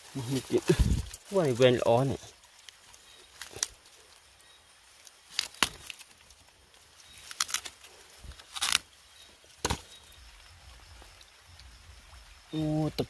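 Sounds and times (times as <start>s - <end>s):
rustles in undergrowth: 0.0s - 13.0s.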